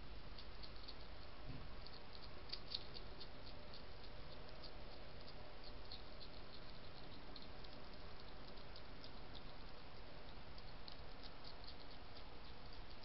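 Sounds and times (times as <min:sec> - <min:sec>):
microphone hiss: 0:00.0 - 0:13.0
hedgehog crunching dry biscuits: 0:00.2 - 0:13.0.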